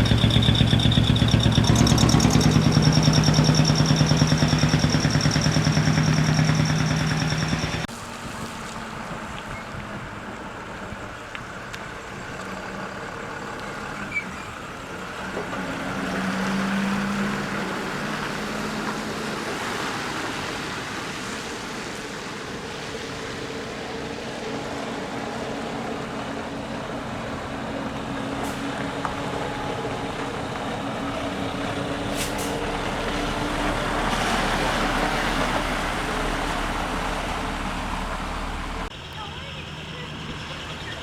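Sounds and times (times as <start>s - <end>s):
heavy truck engines droning: 0.0s - 41.0s.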